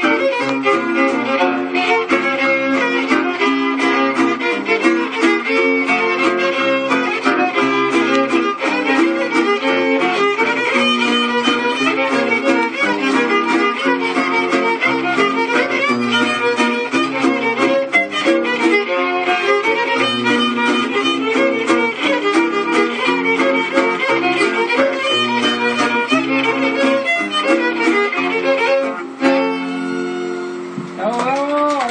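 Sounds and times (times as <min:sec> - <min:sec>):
two fiddles playing a tune: 0:00.0 - 0:30.8.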